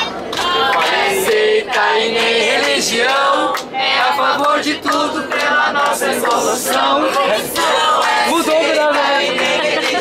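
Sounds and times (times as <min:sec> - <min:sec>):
group singing in chorus: 0:00.3 - 0:10.0.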